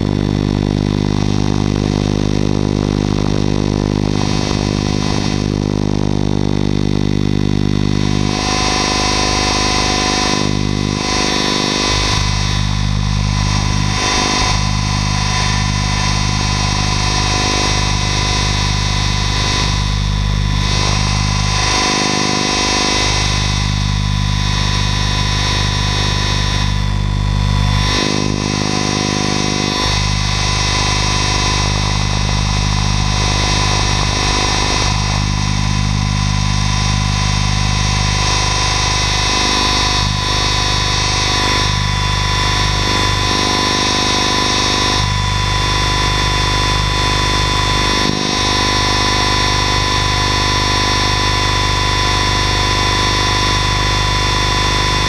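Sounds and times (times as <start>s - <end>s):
rc helicopter motor and rotor whine: 0.0s - 55.0s.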